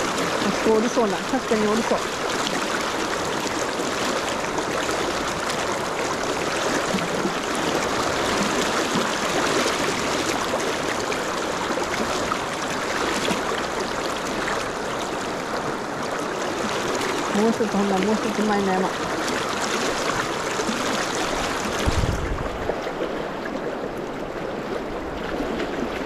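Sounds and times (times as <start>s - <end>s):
river rapids rushing: 0.0s - 25.9s.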